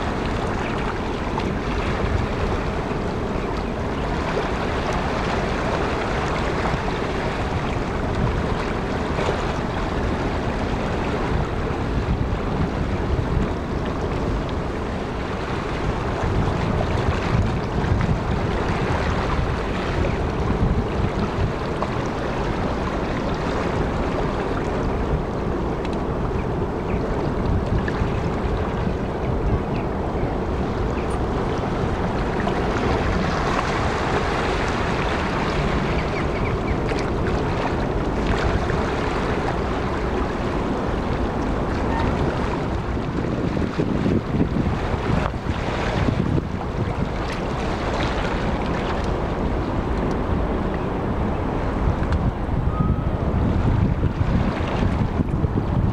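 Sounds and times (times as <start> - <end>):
sea waves washing: 0.0 - 55.9
wind buffeting microphone: 0.0 - 55.9.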